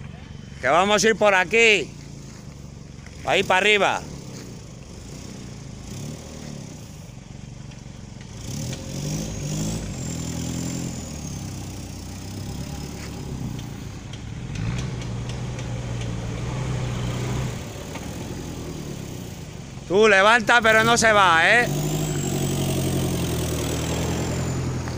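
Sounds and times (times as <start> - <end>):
off-road engine revving: 0.0 - 24.9.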